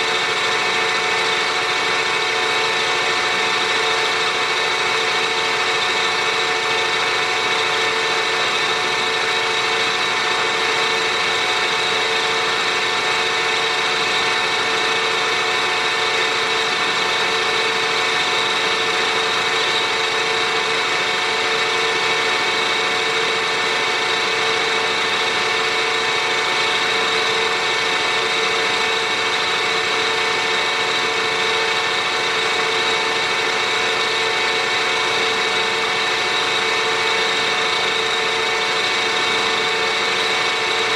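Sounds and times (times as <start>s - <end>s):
milling machine whine: 0.0s - 40.9s.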